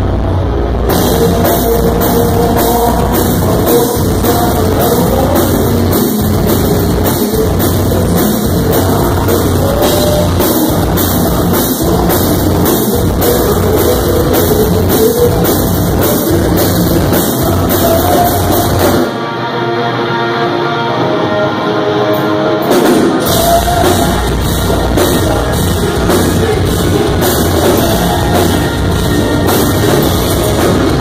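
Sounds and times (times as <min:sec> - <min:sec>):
electric guitars: 0:00.0 - 0:31.0
live metal band playing: 0:00.0 - 0:31.0
person singing: 0:00.0 - 0:31.0
drum kit beat: 0:00.9 - 0:19.1, 0:22.6 - 0:31.0.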